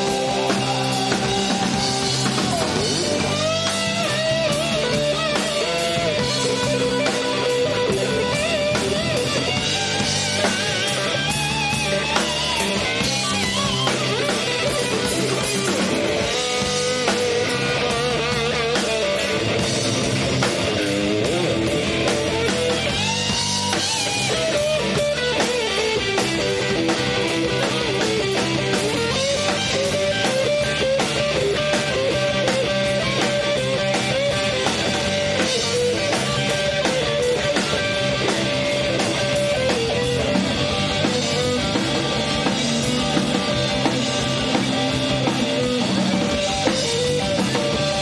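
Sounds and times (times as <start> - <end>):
live band playing: 0.0 - 48.0.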